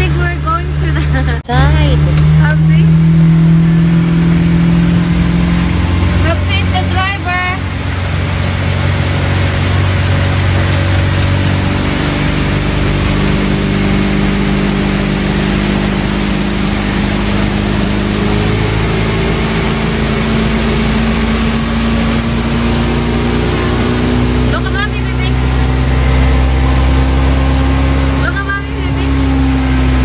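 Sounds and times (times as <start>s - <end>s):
motorboat engine running: 0.0s - 30.0s.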